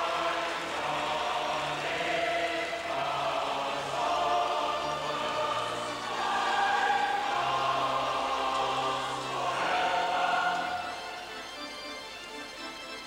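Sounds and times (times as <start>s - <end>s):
audience and choir singing: 0.0s - 12.0s.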